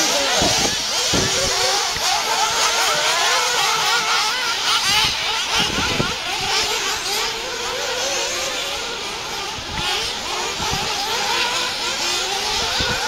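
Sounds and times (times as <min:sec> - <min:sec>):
rc buggy engines whining: 0:00.0 - 0:13.0.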